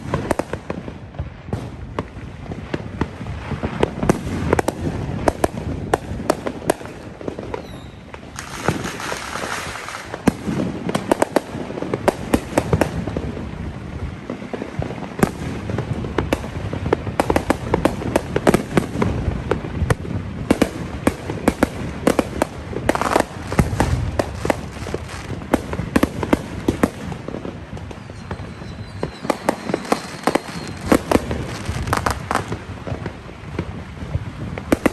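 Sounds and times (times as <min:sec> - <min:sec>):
firecrackers crackling and popping: 0:00.0 - 0:34.9
firework bangs: 0:00.0 - 0:34.9
fireworks hissing: 0:02.5 - 0:34.9.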